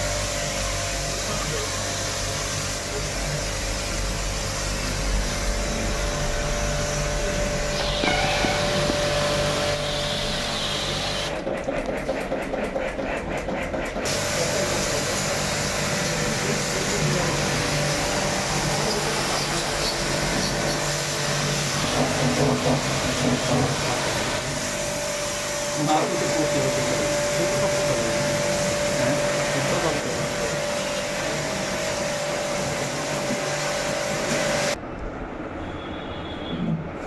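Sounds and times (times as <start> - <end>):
pressure washer spraying water: 0.0 - 11.4, 14.0 - 34.8.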